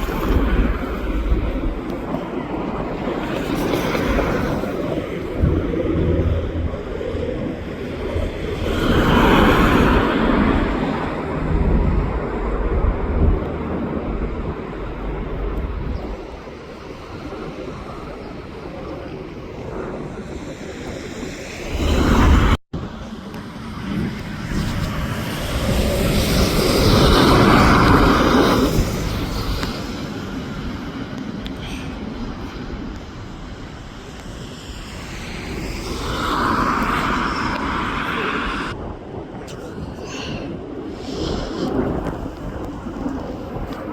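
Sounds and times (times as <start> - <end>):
airliner engine noise: 0.0 - 43.9
wind buffeting microphone: 0.0 - 43.9.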